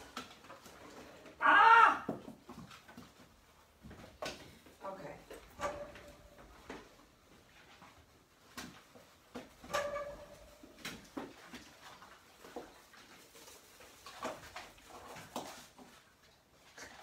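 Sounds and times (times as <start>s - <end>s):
puppies clicking and scuffling: 0.0s - 1.4s, 2.1s - 17.0s.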